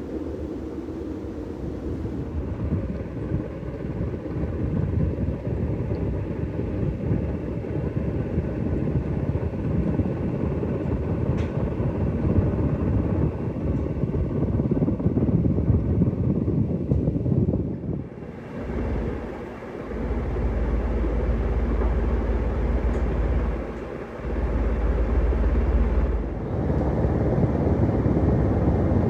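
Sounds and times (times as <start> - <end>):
ceiling fan air rush: 0.0 - 29.0
faint motor hum: 0.0 - 29.0.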